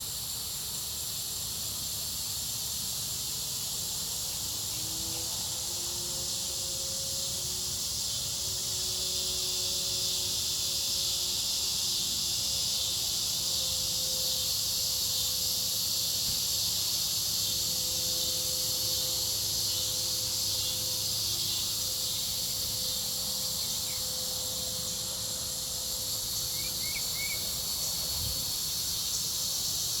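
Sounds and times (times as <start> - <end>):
cicadas droning: 0.0 - 30.0.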